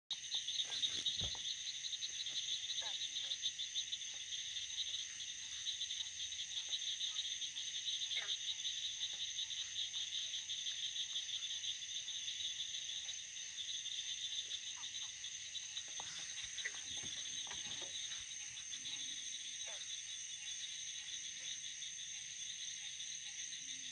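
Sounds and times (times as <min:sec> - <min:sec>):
insects trilling: 0:00.1 - 0:23.9
thin continuous insect buzz: 0:00.1 - 0:23.9.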